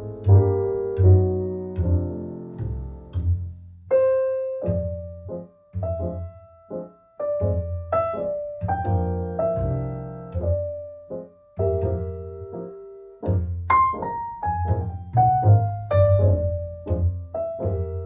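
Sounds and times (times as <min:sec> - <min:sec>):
piano melody over bass: 0:00.0 - 0:18.0.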